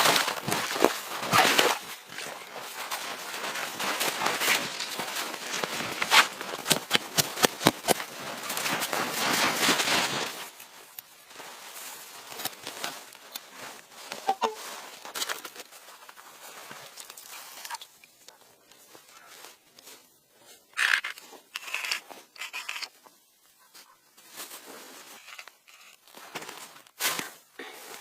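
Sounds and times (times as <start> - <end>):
rustling and crunching: 0.0 - 28.0.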